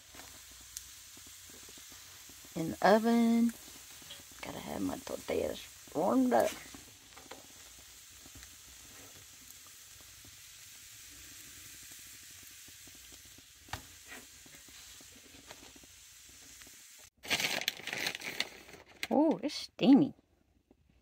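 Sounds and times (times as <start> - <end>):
gas burner hiss: 0.0 - 17.2.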